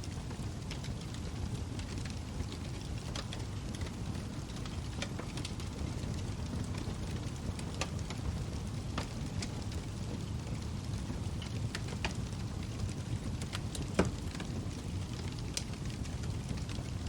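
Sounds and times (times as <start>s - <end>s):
log fire burning: 0.0s - 17.0s.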